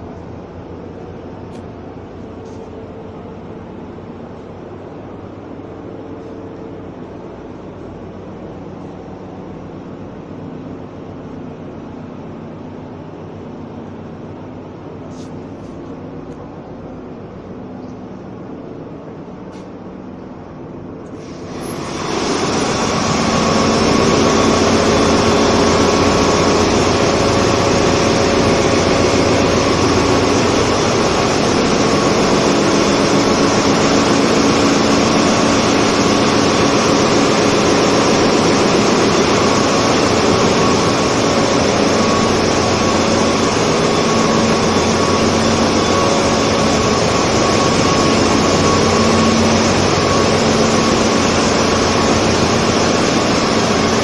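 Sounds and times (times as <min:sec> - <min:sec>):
constant hum: 0:00.0 - 0:54.0
diesel engines running: 0:00.0 - 0:54.0.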